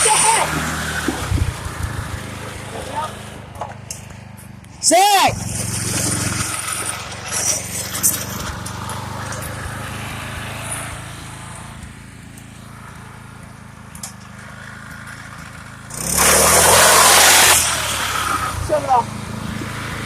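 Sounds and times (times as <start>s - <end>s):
riding lawn mower engine running: 0.0s - 20.0s.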